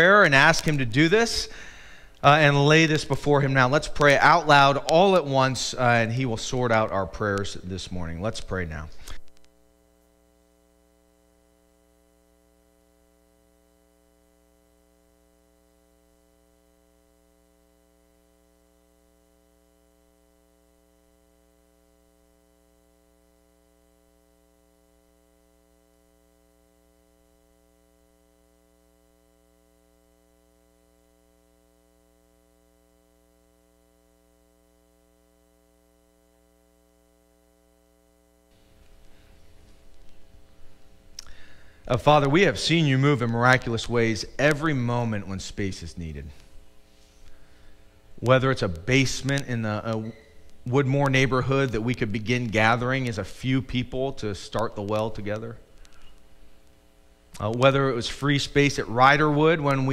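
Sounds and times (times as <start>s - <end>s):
faint steady multi-tone hum: 0.0s - 59.9s.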